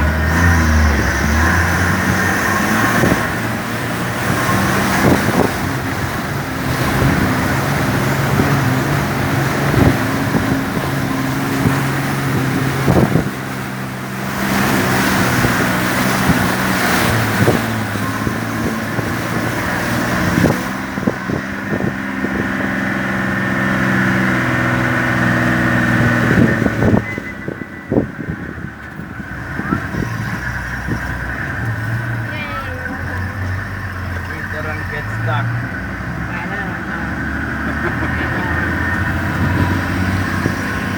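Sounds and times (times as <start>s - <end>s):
vehicle engine labouring: 0.0s - 40.9s
water sloshing: 1.3s - 40.9s.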